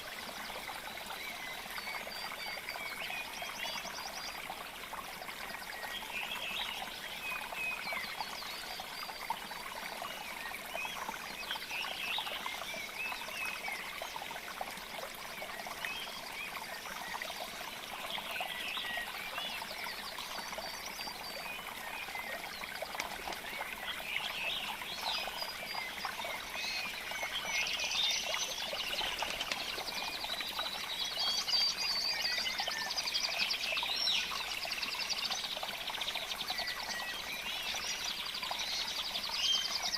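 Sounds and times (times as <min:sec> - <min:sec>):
trickling water-like hiss: 0:00.0 - 0:39.9.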